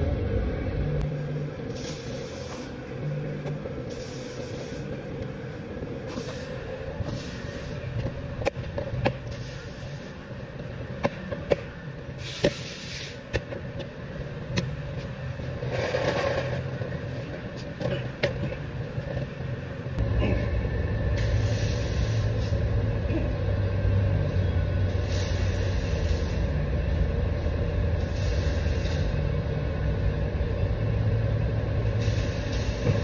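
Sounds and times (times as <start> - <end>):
low workshop rumble: 0.0 - 33.0.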